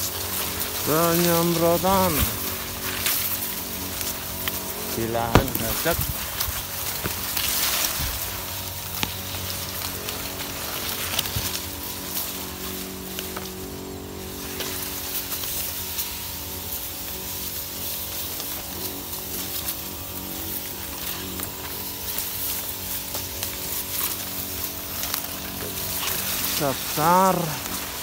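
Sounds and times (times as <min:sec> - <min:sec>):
leaves brushing against lance: 0:00.0 - 0:28.0
small engine running: 0:00.0 - 0:28.0.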